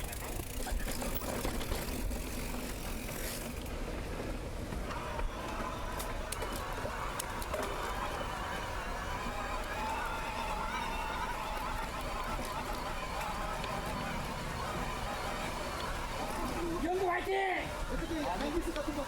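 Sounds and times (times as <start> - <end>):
bike clicks and rattles: 0.0 - 17.0, 17.8 - 19.0
tyres rumbling on dirt: 0.0 - 19.0.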